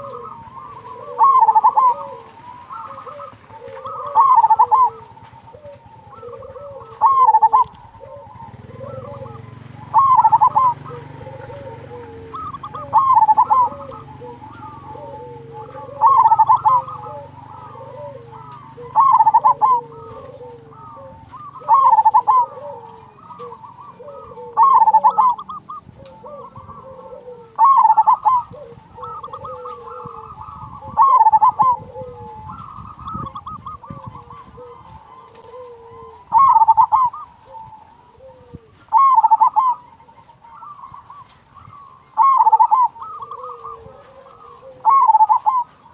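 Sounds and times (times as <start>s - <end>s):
loud rolling dove coo: 0.0s - 45.9s
quieter lower dove coo: 0.0s - 45.9s.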